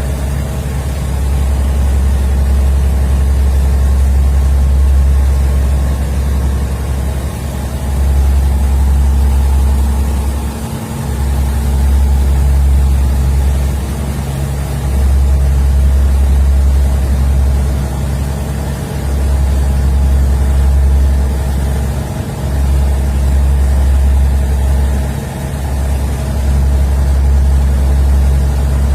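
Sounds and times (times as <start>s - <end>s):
diesel engine drone: 0.0s - 28.9s.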